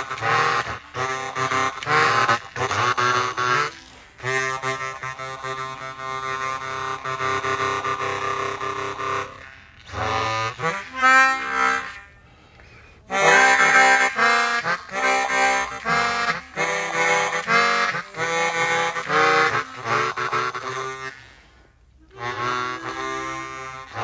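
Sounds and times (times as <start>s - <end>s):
harmonica with wavering effect: 0.0s - 24.0s.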